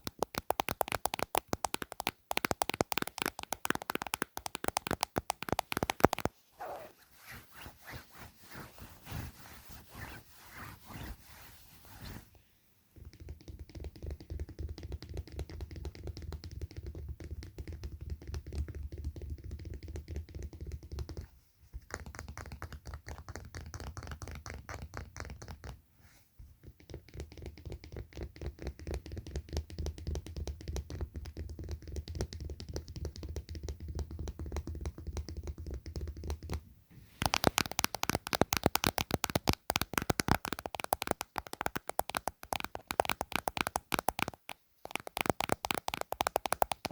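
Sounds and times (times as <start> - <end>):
finger tapping: 0.0 - 6.3, 13.0 - 25.8, 26.6 - 36.6, 37.2 - 46.9.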